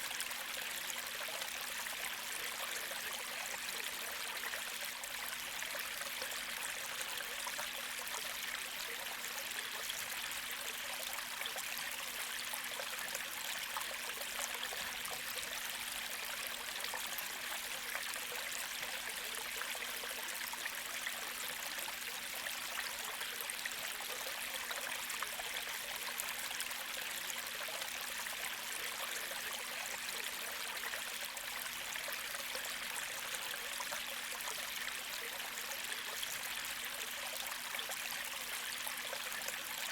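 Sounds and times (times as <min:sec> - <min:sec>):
creek flowing: 0:00.0 - 0:39.9.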